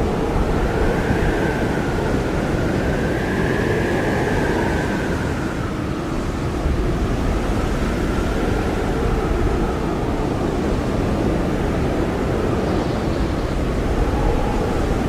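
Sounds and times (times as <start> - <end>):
blizzard wind blowing: 0.0 - 15.0
howling wind whistle: 0.0 - 15.0.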